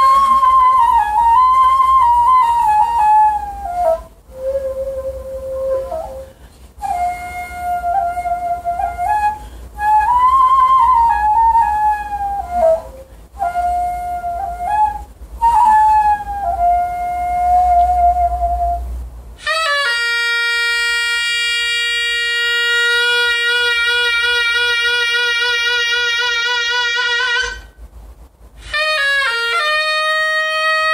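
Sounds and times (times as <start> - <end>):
bamboo flute slow melody: 0.0 - 27.8, 28.6 - 30.9
shawm long loud held note: 0.0 - 27.9.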